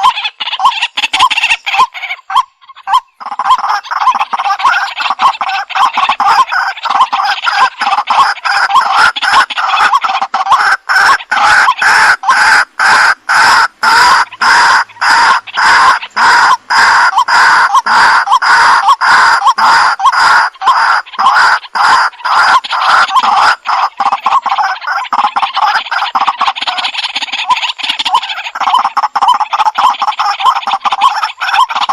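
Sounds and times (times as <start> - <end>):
waterhen calling harsh notes: 0.0 - 31.9.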